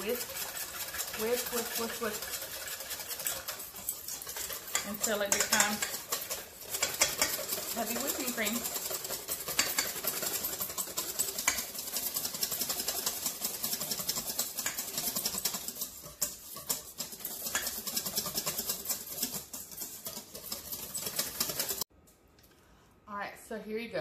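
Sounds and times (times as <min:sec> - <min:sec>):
whisk clattering in metal bowl: 0:00.0 - 0:21.9.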